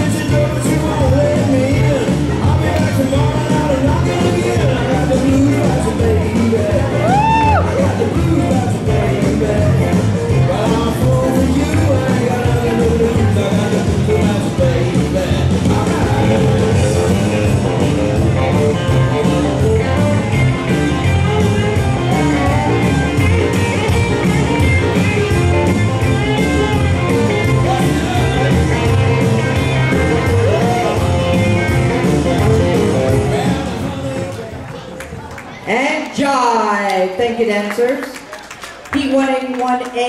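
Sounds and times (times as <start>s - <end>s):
jive dance music with singer: 0.0s - 34.8s.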